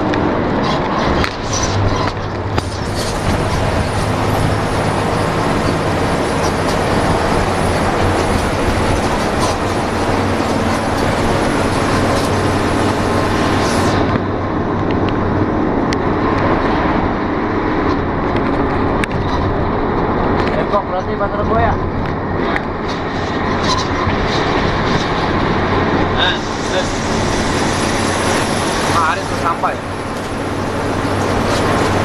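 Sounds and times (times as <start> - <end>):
bus engine drone: 0.0 - 32.0
road and tyre noise: 0.0 - 32.0.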